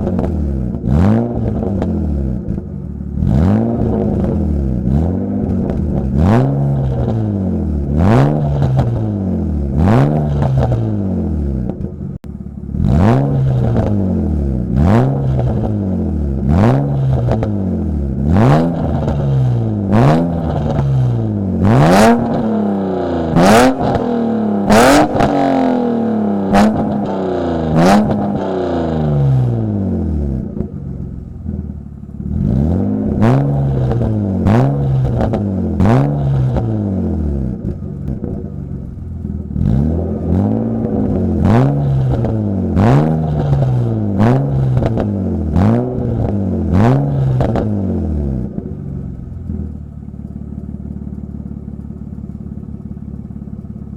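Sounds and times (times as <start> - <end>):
engine revving: 0.0 - 51.3
exhaust crack: 0.0 - 53.9.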